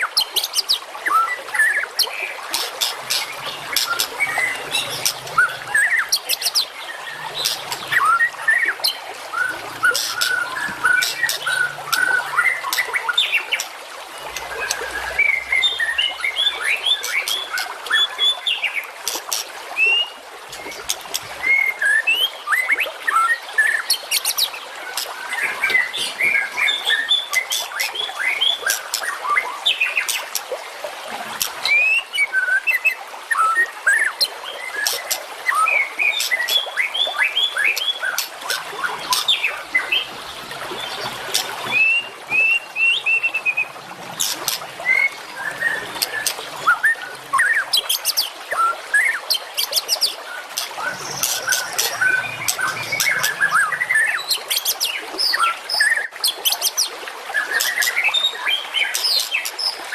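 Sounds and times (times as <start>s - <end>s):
songbirds singing densely: 0.0s - 59.9s.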